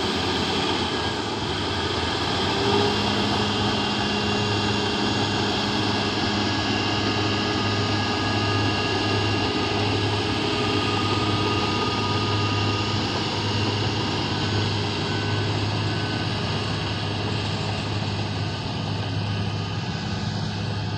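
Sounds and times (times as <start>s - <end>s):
bulldozer diesel engine running: 0.0s - 20.9s.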